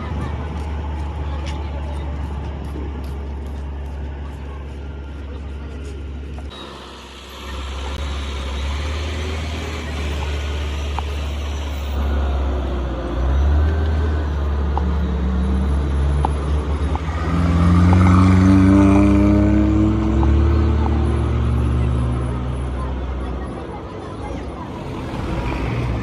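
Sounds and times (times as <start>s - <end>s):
tractor engine droning: 0.0s - 26.0s.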